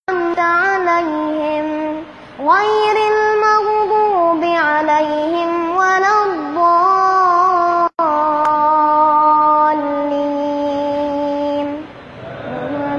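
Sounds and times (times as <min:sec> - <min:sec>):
child chanting melodic recitation: 0:00.1 - 0:12.9.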